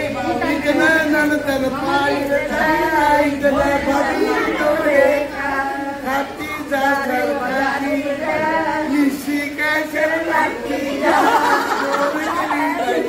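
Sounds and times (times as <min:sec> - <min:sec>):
people talking: 0:00.0 - 0:13.0
women singing together: 0:00.0 - 0:13.0.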